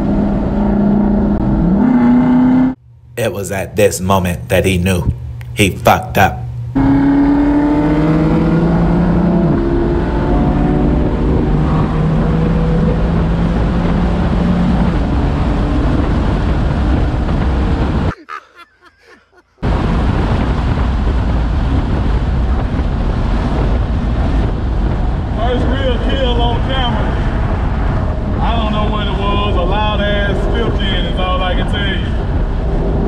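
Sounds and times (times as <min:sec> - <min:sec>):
wind and road noise: 0:00.0 - 0:03.3, 0:04.2 - 0:18.2, 0:19.4 - 0:33.0.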